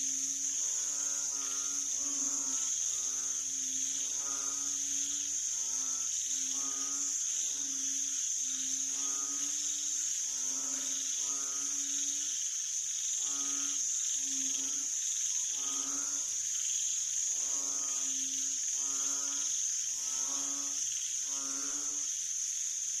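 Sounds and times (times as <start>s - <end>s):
crickets and insects chorus: 0.0s - 23.0s
bullfrogs calling: 0.2s - 12.4s, 13.1s - 16.6s, 17.2s - 22.1s.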